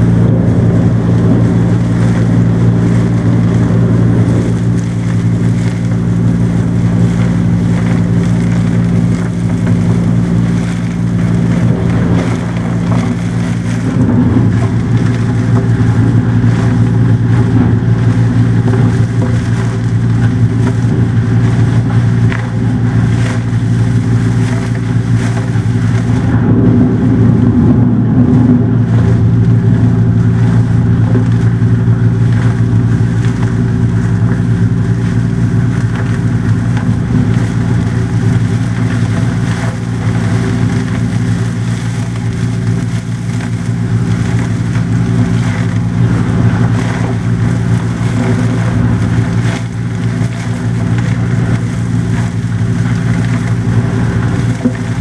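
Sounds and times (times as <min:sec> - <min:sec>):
vacuum truck engine droning: 0:00.0 - 0:55.0.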